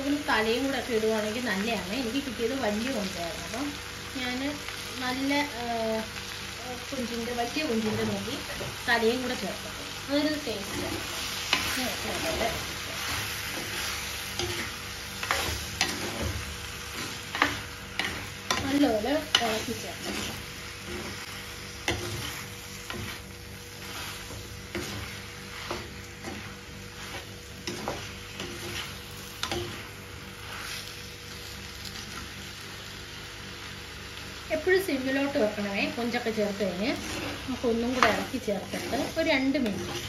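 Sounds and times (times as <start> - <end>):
food sizzling in oil: 0.0 - 40.0.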